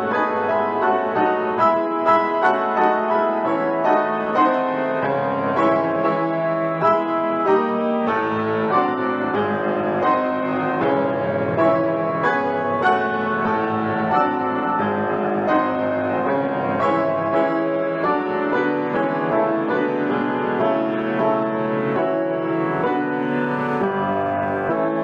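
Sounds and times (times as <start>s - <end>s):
solo piano piece: 0.0s - 25.0s.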